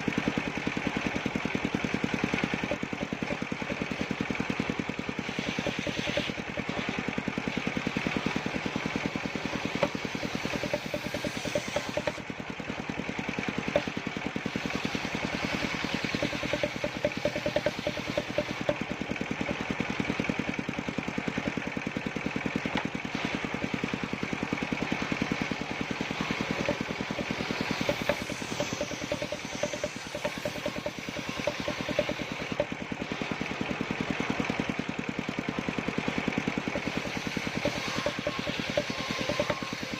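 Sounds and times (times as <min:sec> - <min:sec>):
saw machine engine running: 0:00.0 - 0:39.9.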